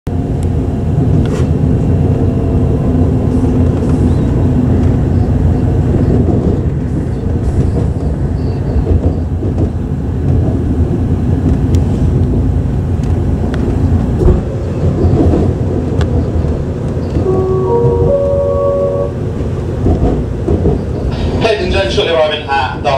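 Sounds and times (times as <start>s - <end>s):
train wheels rumbling on track: 0.1s - 22.9s.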